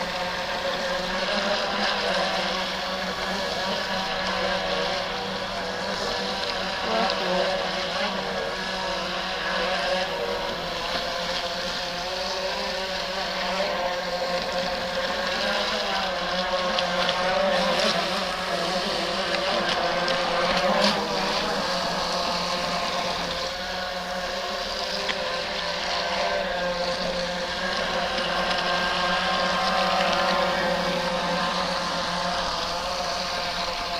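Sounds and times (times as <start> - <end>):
electric boat motor whining: 0.0 - 33.9.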